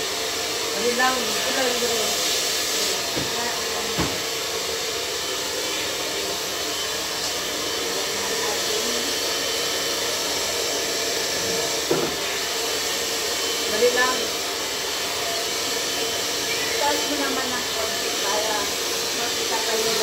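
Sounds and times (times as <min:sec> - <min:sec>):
hair dryer blowing: 0:00.0 - 0:20.0.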